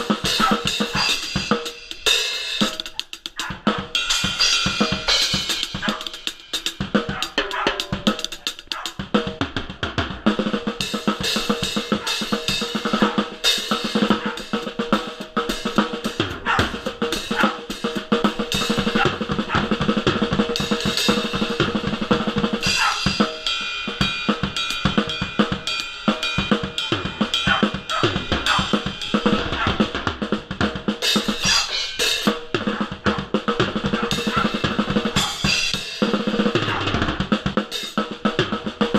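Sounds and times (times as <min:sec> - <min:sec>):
drum kit playing a beat: 0:00.0 - 0:38.9.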